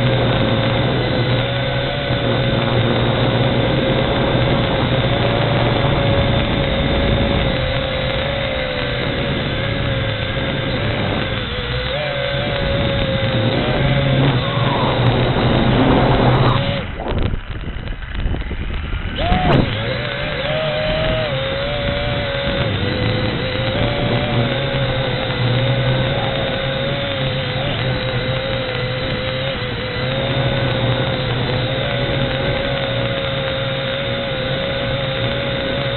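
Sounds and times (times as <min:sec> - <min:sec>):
quadcopter motors whining: 0:00.0 - 0:35.9
wind rumble on microphone: 0:00.0 - 0:35.9.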